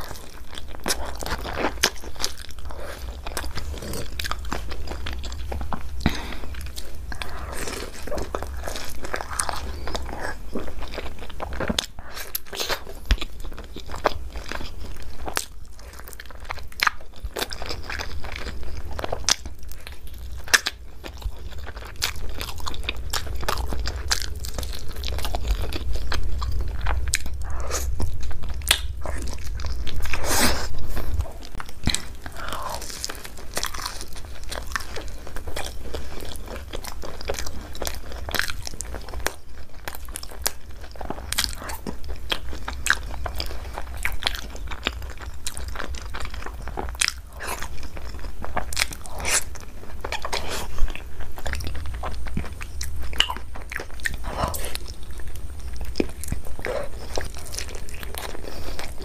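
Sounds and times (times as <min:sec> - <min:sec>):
person chewing with mouth clicks: 0:00.0 - 0:59.0.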